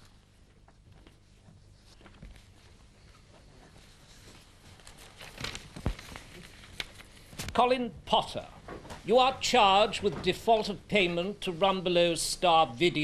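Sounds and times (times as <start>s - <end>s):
faint footsteps and shuffling: 0.0s - 12.2s.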